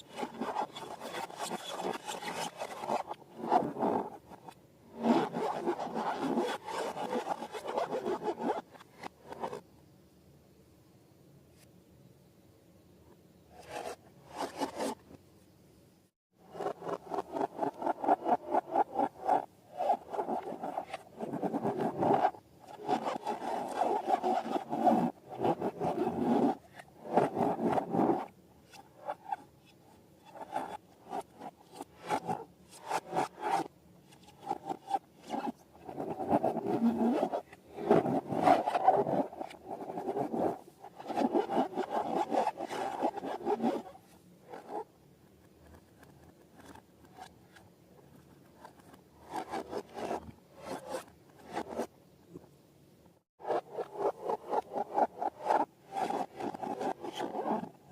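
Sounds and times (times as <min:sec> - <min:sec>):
rubbery squeaking and rubbing: 0:00.0 - 0:09.6, 0:13.6 - 0:15.0, 0:16.5 - 0:44.9, 0:48.6 - 0:51.9, 0:53.4 - 0:57.9.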